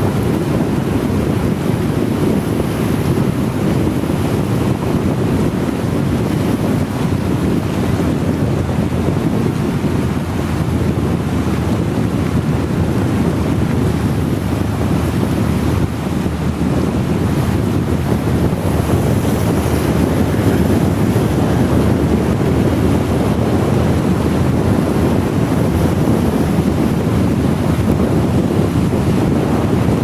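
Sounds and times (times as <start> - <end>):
heavy rain on wet road: 0.0 - 30.0
wind rumble on microphone: 0.0 - 30.0.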